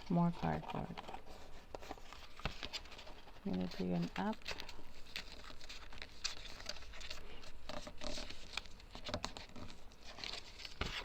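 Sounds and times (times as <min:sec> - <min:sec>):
cardboard rustling and creasing: 0:00.0 - 0:11.0.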